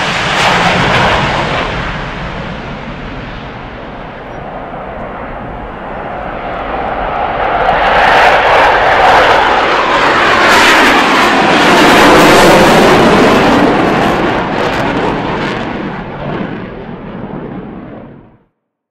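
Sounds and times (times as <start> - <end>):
fighter jet engines roaring: 0.0 - 18.4.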